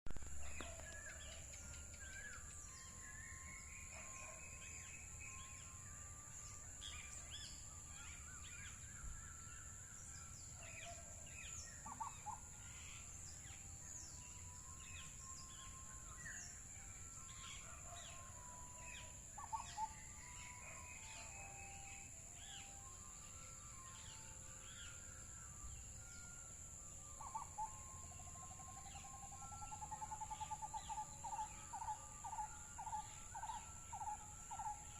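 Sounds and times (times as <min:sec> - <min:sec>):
birds chirping and whistling: 0:00.2 - 0:34.9.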